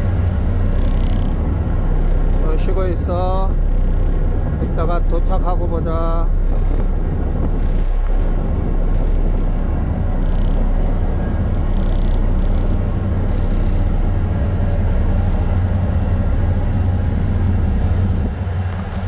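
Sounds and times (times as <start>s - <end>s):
ship engine droning: 0.0s - 19.0s.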